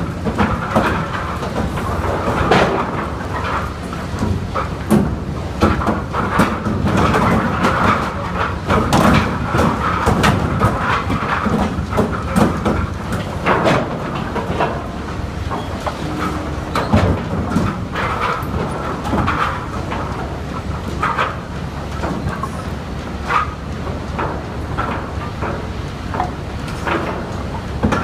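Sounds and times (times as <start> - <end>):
lumber boards clattering: 0.0 - 28.0
steady machinery noise: 0.0 - 28.0.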